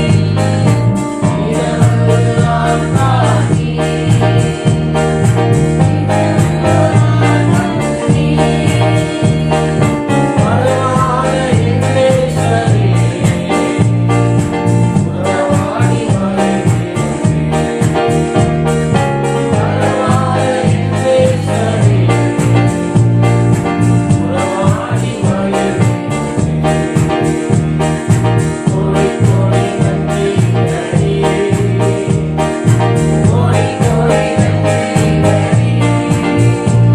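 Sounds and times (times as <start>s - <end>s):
worship music on electronic keyboard: 0.0s - 36.9s.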